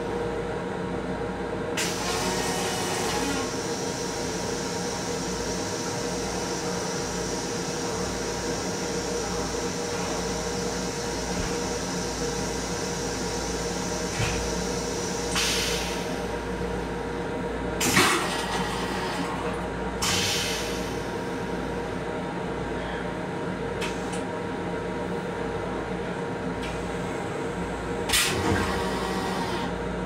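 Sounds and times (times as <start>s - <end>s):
electric railcar hum and rumble: 0.0s - 30.0s.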